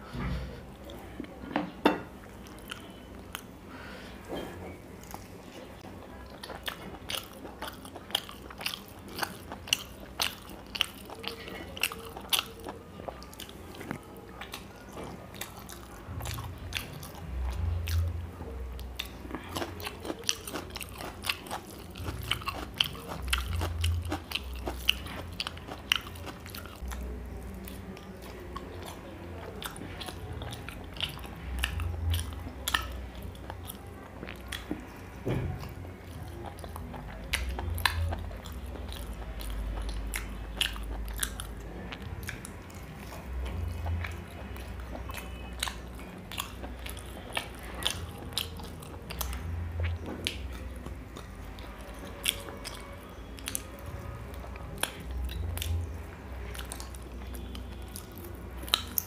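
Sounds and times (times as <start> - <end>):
chewing and biting: 5.0 - 59.0.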